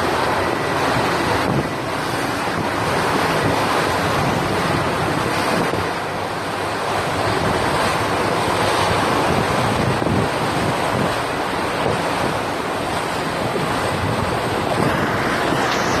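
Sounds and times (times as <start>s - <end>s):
waves washing: 0.0s - 16.0s
wind blowing across microphone: 0.0s - 16.0s.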